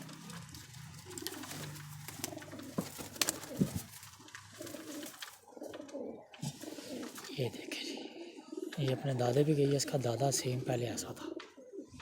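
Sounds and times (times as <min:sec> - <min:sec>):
pigeons cooing: 0:00.2 - 0:12.0.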